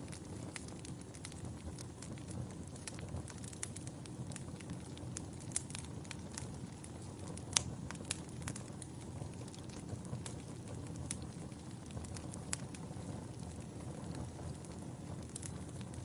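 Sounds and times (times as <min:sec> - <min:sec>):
logs crackling and popping: 0:00.0 - 0:16.0
low rumble of flame: 0:00.0 - 0:16.0.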